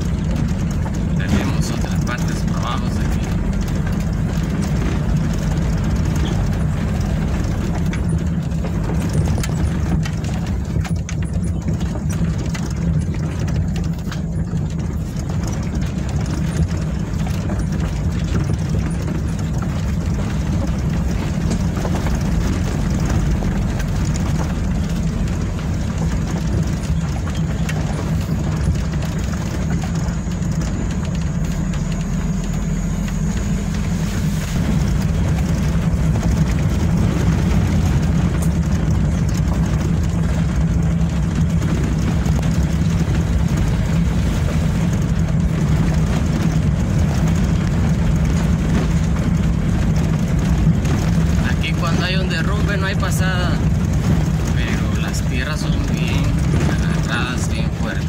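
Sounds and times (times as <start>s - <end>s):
road and rattle noise: 0.0s - 58.0s
vehicle engine droning: 0.0s - 58.0s.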